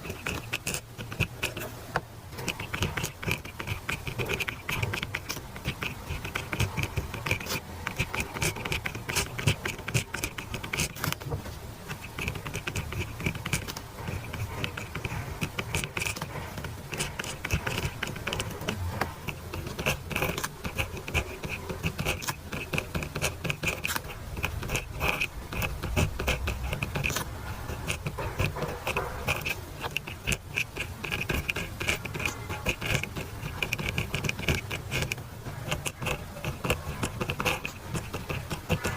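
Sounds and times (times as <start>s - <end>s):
pen scratching on paper: 0.0s - 38.9s.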